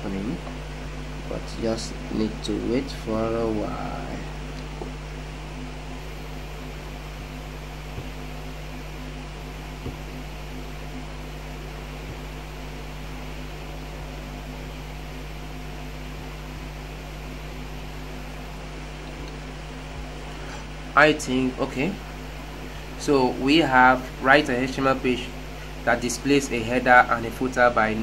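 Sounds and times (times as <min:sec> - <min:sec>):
fan-like hum and hiss: 0:00.0 - 0:28.0.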